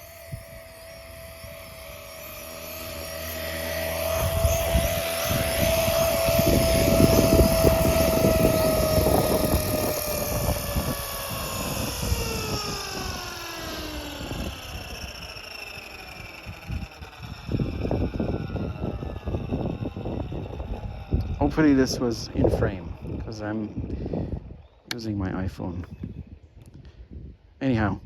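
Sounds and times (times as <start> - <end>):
rc helicopter motors whining: 0.0 - 27.9
wind rumbling on microphone: 0.0 - 28.0.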